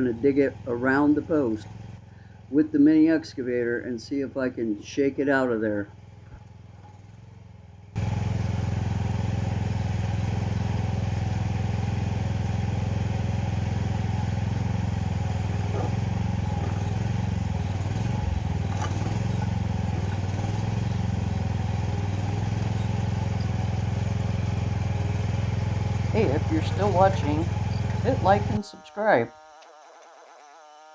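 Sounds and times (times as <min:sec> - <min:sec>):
excavator engine running: 0:00.0 - 0:30.4.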